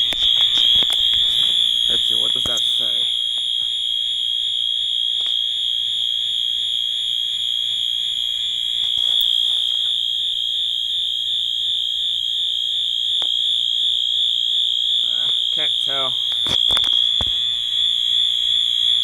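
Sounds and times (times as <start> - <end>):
high-pitched alarm tone: 0.0 - 19.0.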